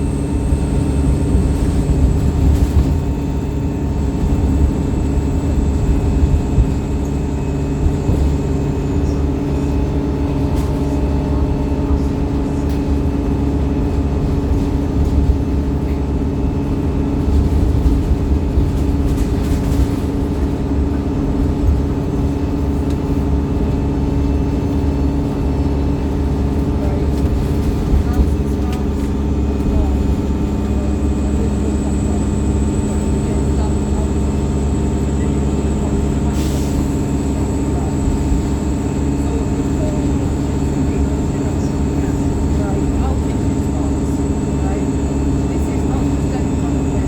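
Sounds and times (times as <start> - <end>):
diesel bus engine droning: 0.0 - 47.0.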